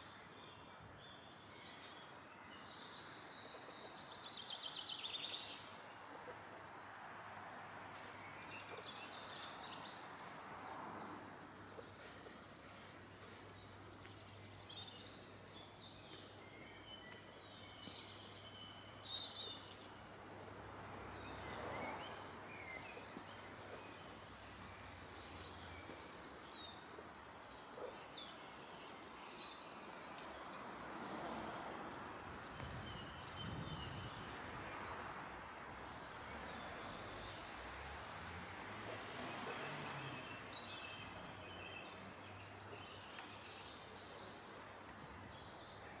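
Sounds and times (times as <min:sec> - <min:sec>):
songbirds chirping and singing: 0:00.0 - 0:38.7
faint outdoor background noise: 0:00.0 - 0:46.0.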